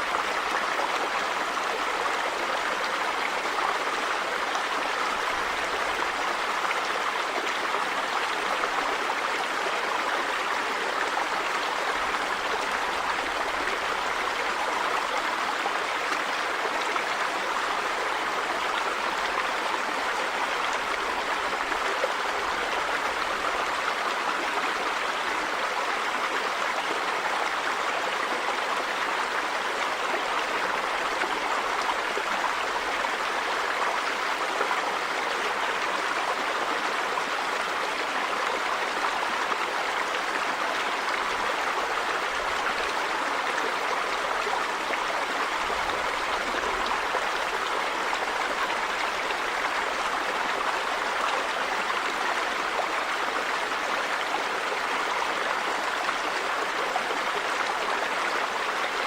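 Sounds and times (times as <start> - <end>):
river water running over rocks: 0.0 - 59.0.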